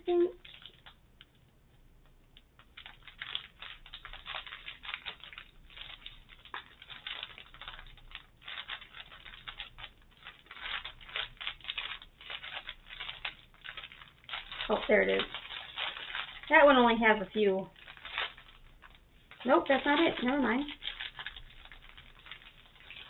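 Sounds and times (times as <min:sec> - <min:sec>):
plastic packets crinkling: 0:00.2 - 0:01.3, 0:02.4 - 0:23.0.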